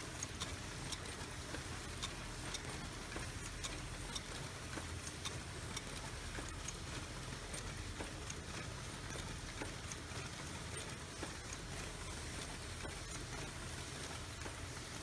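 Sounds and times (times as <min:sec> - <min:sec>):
light mechanical clicks: 0:00.0 - 0:15.0.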